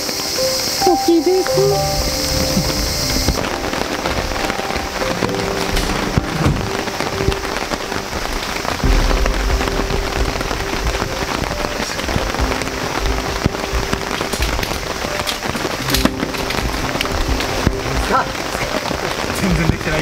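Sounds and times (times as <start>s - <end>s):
rain on a tent: 0.0s - 20.0s.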